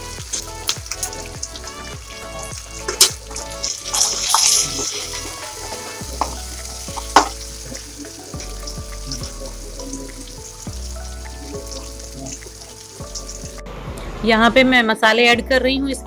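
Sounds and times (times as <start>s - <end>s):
food frying in oil: 0.0s - 13.6s.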